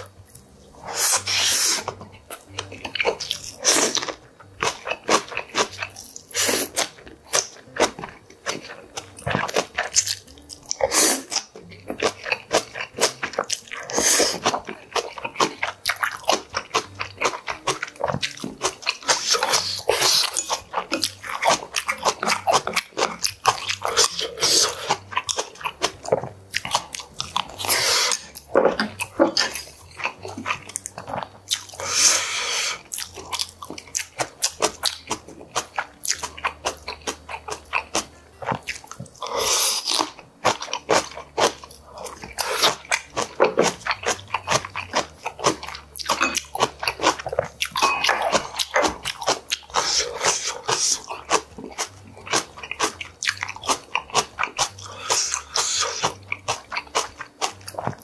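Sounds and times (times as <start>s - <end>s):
chewing and crunchy bites: 0.0s - 58.0s.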